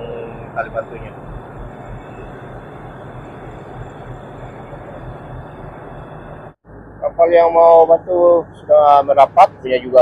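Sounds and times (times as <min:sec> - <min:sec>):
rushing noise: 0:00.0 - 0:09.6
tugboat engine droning: 0:00.0 - 0:10.0.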